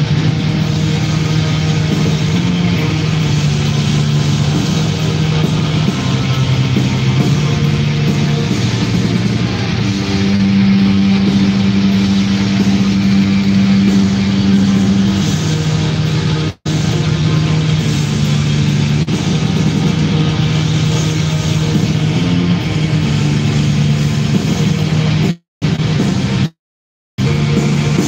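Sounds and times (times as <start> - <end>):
distorted electric guitars: 0.0 - 26.6, 27.2 - 28.0
drums: 0.0 - 26.6, 27.2 - 28.0
low bass notes: 0.0 - 26.6, 27.2 - 28.0.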